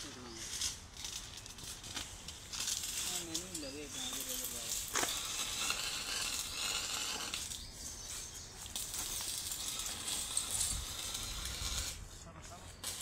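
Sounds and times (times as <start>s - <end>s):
electric arc welding crackling: 0.0s - 13.0s.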